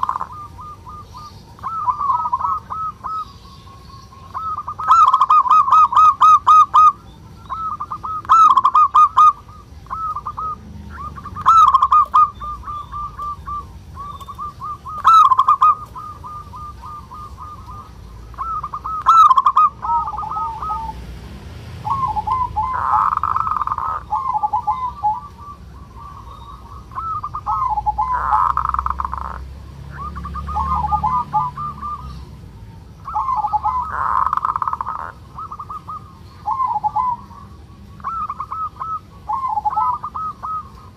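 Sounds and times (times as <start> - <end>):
dove rasping call: 0.0 - 40.9
dove trilling coos: 0.0 - 40.9.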